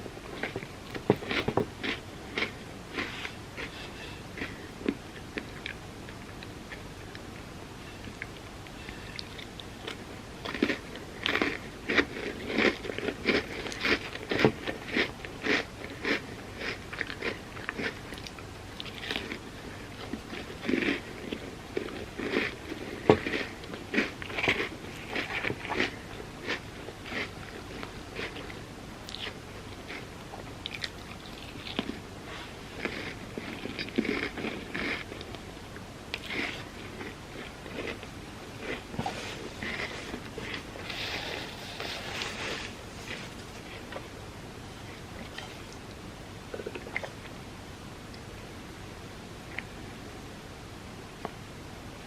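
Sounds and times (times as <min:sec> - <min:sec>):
person chewing crunchy food: 0:00.2 - 0:47.4.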